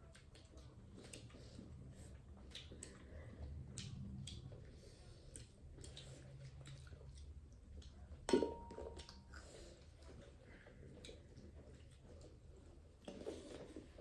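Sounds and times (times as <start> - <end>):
chewing with wet clicks: 0.0 - 14.0.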